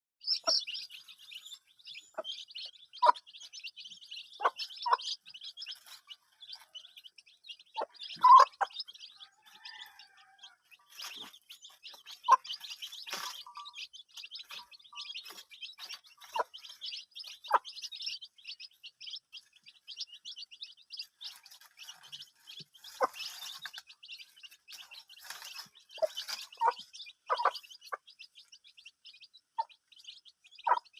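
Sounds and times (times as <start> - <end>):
small birds chirping: 0.2 - 30.9.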